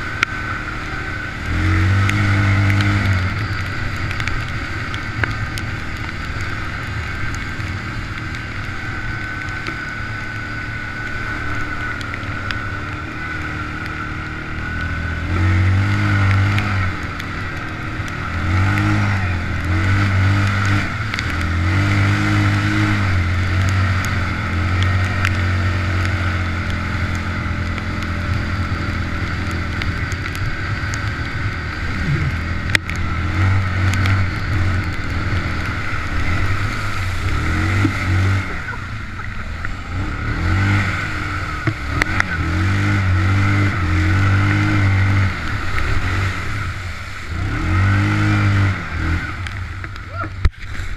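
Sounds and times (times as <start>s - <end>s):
steady high whine: 0.0s - 47.5s
quad bike engine revving: 0.0s - 50.9s.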